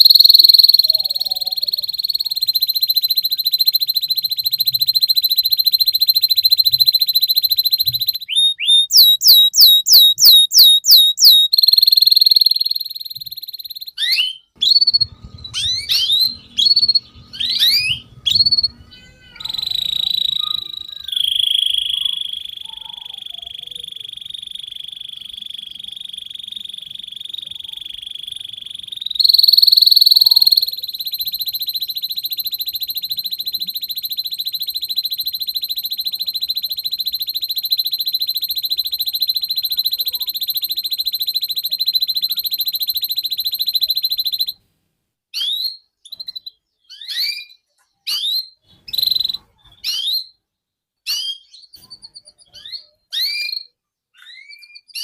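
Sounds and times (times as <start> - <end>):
canary singing trills: 0.0 - 44.6.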